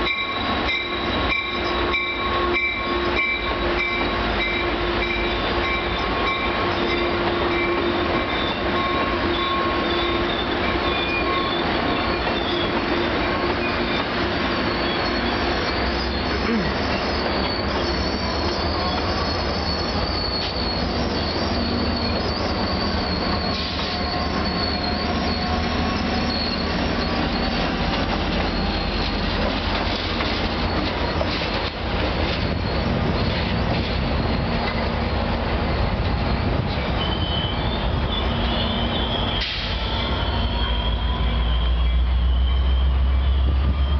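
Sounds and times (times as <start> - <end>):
diesel locomotive passing: 0.0 - 43.9
train wheels rumbling on rails: 0.0 - 43.9
high wheel squeals: 0.1 - 43.9.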